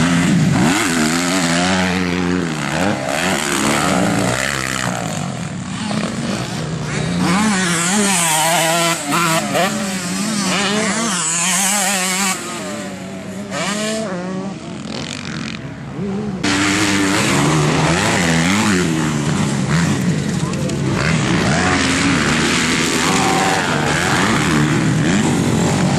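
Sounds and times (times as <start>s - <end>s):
motocross bikes revving: 0.0s - 25.9s.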